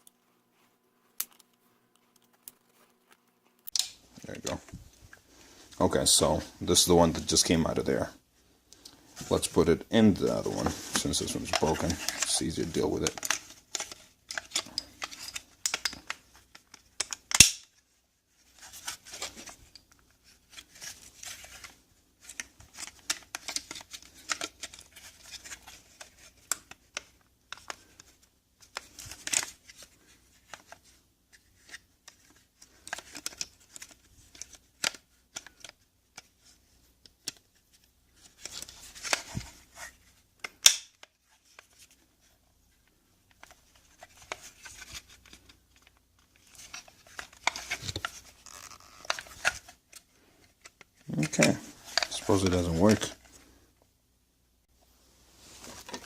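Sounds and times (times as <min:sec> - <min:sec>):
plastic parts clicking and scraping: 0:01.2 - 0:06.1, 0:10.2 - 0:17.8, 0:18.4 - 0:53.6, 0:55.6 - 0:56.0.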